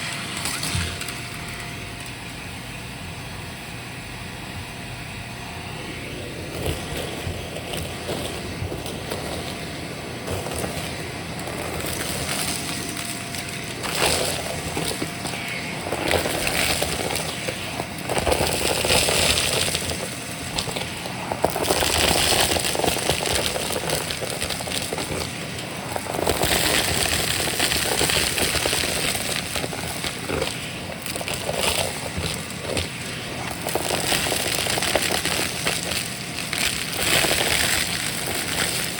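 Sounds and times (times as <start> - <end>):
debris rattling up hose: 0.0 - 2.2, 5.9 - 38.9
vacuum cleaner running: 0.0 - 38.9.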